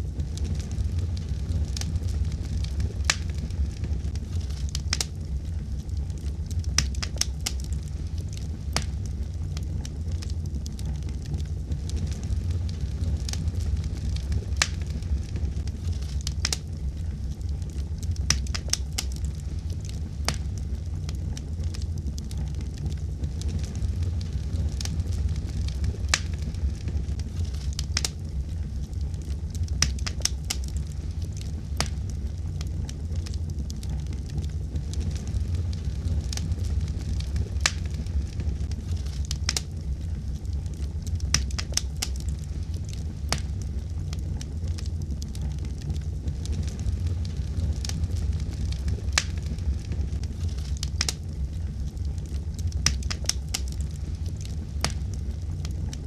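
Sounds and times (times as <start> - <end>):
steady low rumble: 0.0 - 56.0
wood fire crackling: 0.0 - 56.0.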